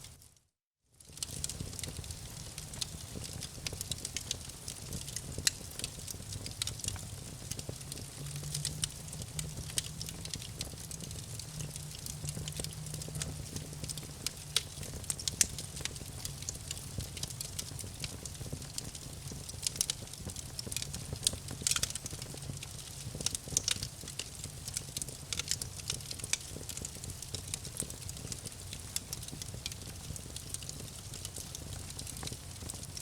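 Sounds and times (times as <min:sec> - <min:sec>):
campfire crackling and popping: 0:01.0 - 0:33.0.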